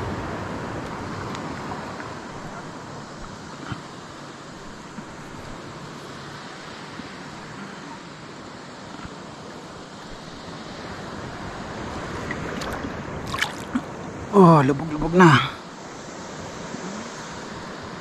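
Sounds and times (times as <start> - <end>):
water noise: 0.0 - 18.0
wind: 0.0 - 18.0.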